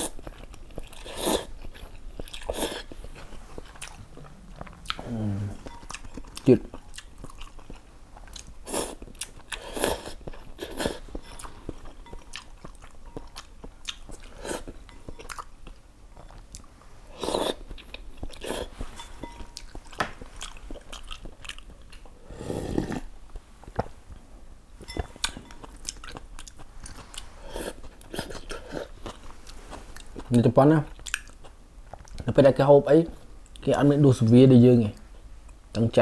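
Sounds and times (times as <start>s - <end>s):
person chewing noodles: 0.0s - 23.8s, 24.8s - 30.3s, 30.9s - 32.2s.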